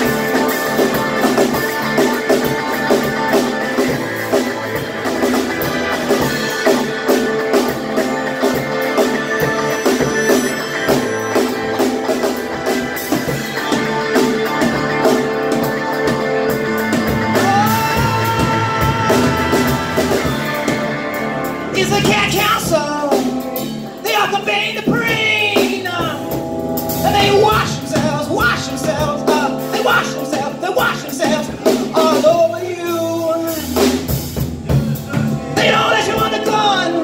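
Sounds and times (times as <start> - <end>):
live rock band playing: 0.0 - 37.0
sliding bending lead guitar line: 0.0 - 37.0.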